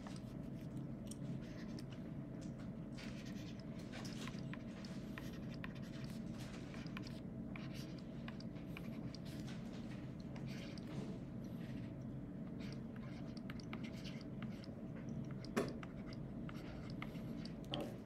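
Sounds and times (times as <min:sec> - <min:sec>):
stylus tapping and scratching: 0:00.0 - 0:11.0, 0:11.6 - 0:18.0
steady low hum: 0:00.0 - 0:18.0.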